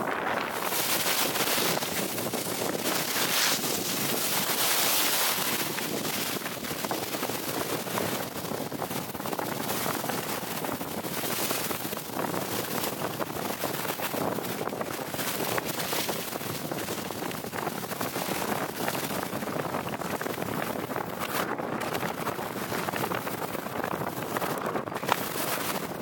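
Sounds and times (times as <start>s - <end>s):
wind on microphone: 0.0s - 26.0s
skis scraping over snow: 0.1s - 26.0s.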